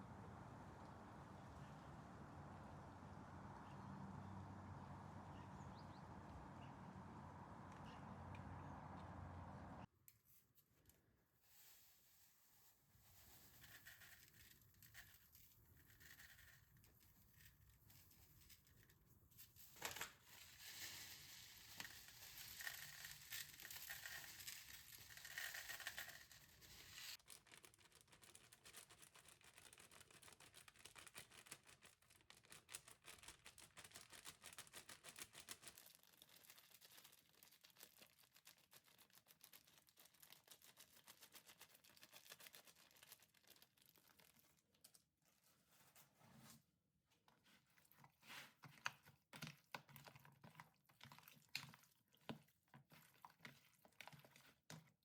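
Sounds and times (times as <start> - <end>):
crinkling and rustling handling: 10.0 - 55.0.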